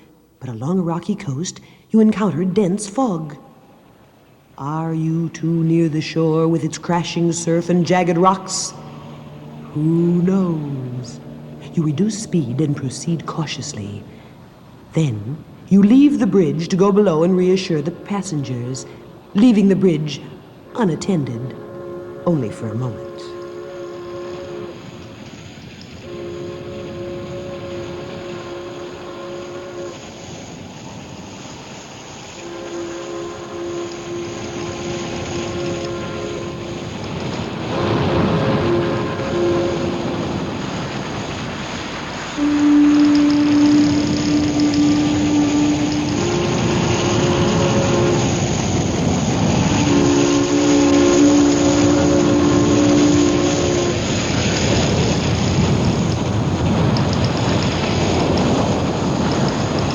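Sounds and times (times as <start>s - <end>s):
ship's horn blast: 1.9s - 59.9s
steady rushing noise: 1.9s - 59.9s.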